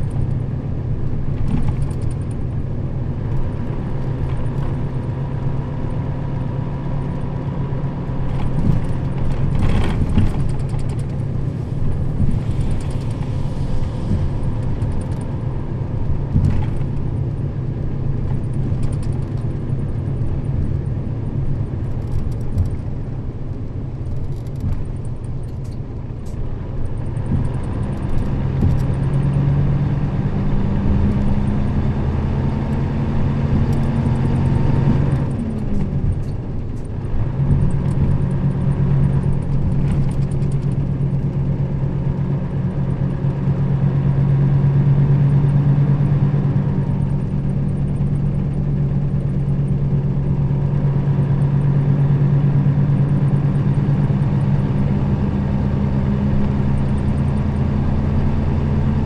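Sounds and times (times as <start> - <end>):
bus engine hum: 0.0 - 59.0
road noise: 0.0 - 59.0.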